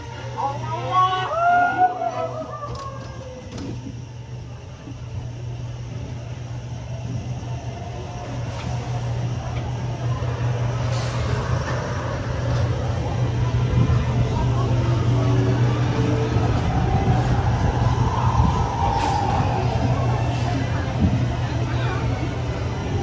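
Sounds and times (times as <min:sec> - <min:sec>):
ride car rolling on track: 0:00.0 - 0:23.0
rumbling wheel noise: 0:00.0 - 0:23.0.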